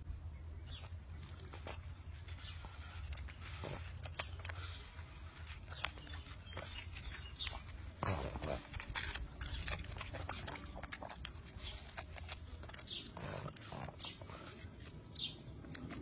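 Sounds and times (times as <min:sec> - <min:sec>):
dog chewing and smacking: 0:00.6 - 0:16.0.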